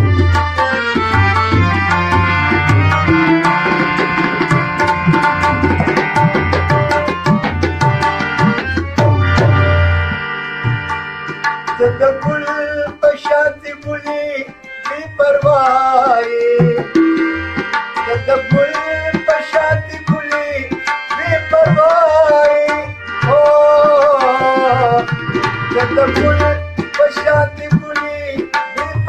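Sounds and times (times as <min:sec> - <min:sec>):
tabla strokes: 0:00.0 - 0:13.4, 0:15.4 - 0:29.0.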